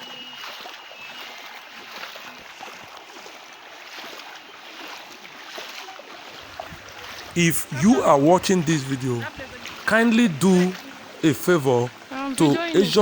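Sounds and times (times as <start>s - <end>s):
water splashing and sloshing: 0.0s - 13.0s
flood water rushing: 1.7s - 13.0s.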